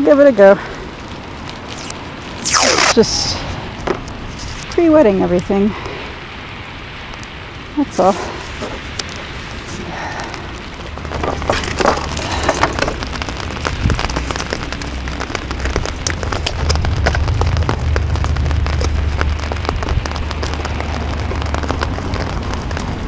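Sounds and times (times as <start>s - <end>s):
rain ticking on an umbrella: 0.0s - 23.0s
steady low rumble: 0.0s - 23.0s.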